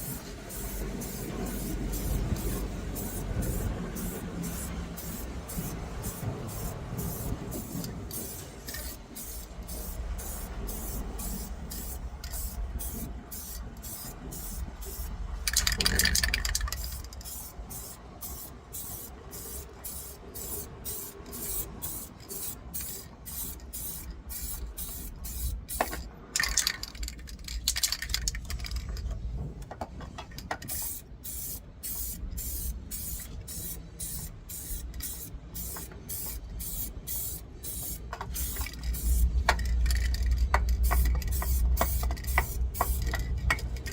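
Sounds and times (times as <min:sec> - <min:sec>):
spray paint hissing: 0:00.0 - 0:26.7, 0:30.7 - 0:43.9.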